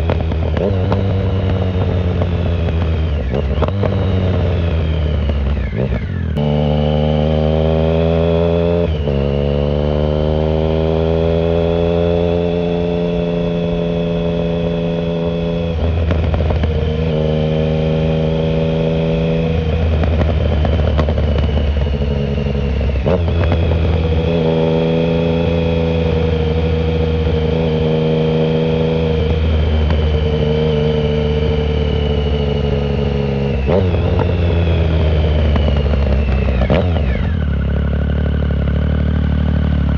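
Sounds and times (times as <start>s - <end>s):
motorcycle engine on the move: 0.0s - 39.9s.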